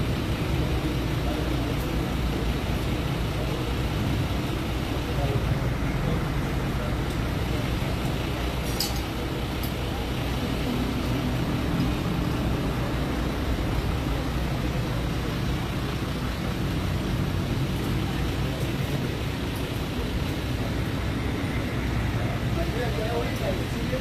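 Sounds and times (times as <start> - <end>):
engine idling: 0.0 - 24.0
street traffic: 0.0 - 24.0.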